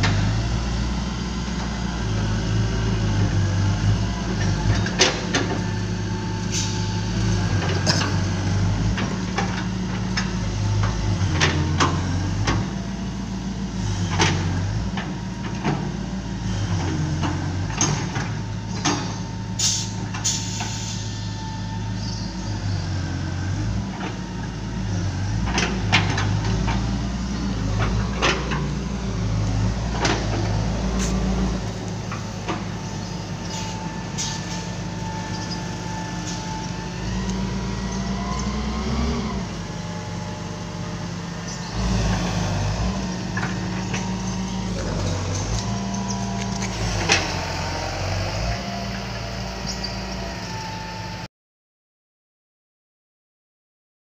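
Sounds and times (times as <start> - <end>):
excavator diesel engine running: 0.0 - 51.3.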